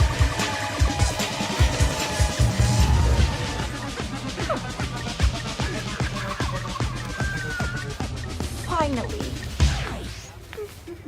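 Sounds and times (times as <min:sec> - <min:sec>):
film music with low beat: 0:00.0 - 0:11.0.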